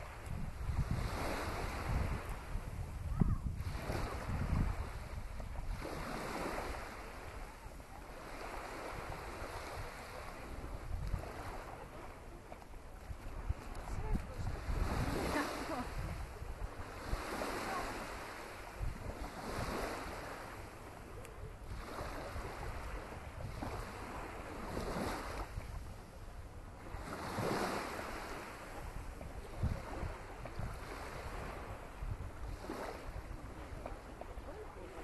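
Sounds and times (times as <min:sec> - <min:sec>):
small waves washing onto sand: 0:00.0 - 0:35.0
wind rumble on the microphone: 0:00.0 - 0:35.0.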